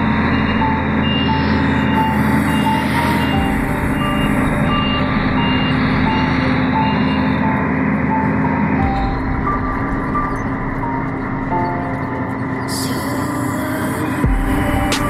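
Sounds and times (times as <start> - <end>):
truck diesel engine running: 0.0 - 13.6
high beeping tune: 0.0 - 15.0.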